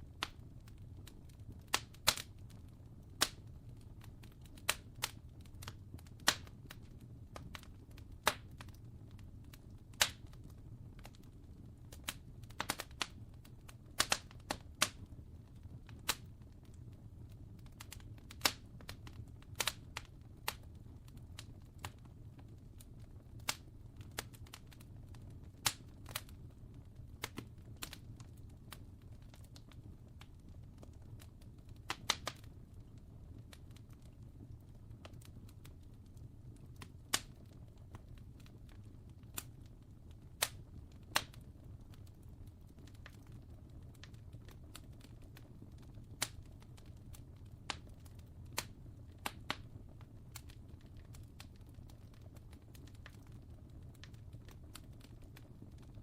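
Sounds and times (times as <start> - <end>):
wood fire crackling: 0.0 - 56.0
sharp pops and snaps: 0.2 - 11.3, 11.9 - 16.8, 17.6 - 36.0, 36.6 - 56.0.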